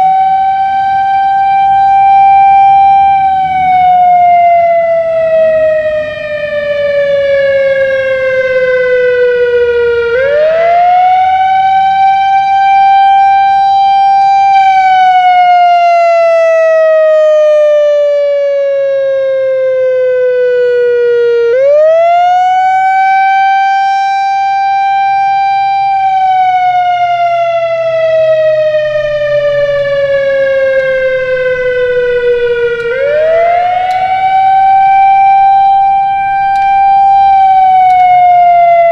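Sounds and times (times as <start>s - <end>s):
outdoor warning siren wailing: 0.0s - 38.9s.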